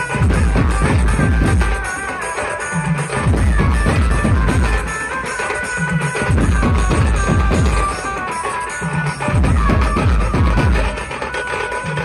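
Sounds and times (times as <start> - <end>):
bass drums and side drums: 0.0 - 12.0
held melody line: 0.0 - 12.0.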